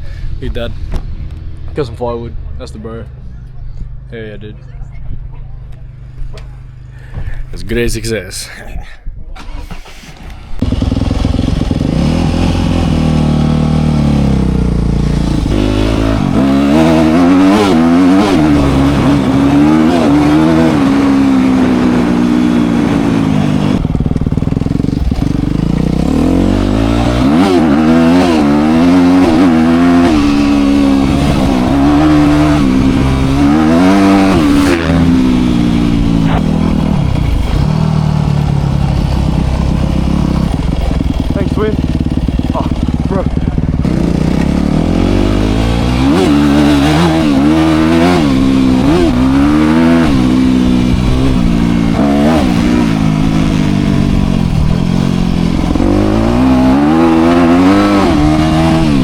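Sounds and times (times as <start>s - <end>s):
dirt bike engine revving: 9.4s - 59.0s.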